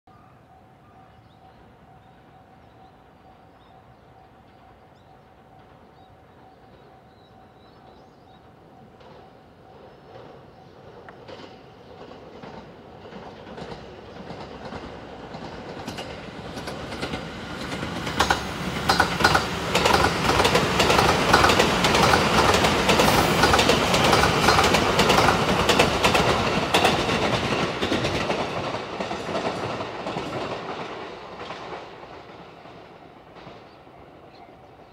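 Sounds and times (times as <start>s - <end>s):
train passing at speed: 0.4s - 34.9s.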